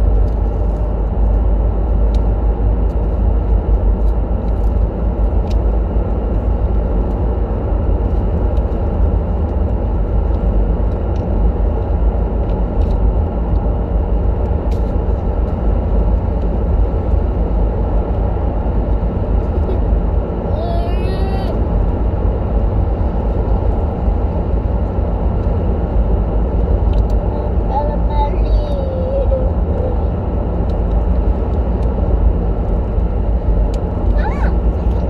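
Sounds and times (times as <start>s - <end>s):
car interior road and engine rumble: 0.0s - 35.0s.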